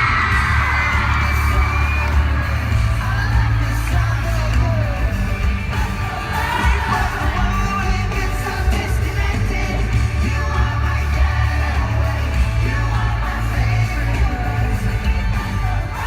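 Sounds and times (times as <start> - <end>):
crowd yelling: 0.0 - 16.0
live pop-rock band playing: 0.0 - 16.0
person singing: 0.0 - 16.0.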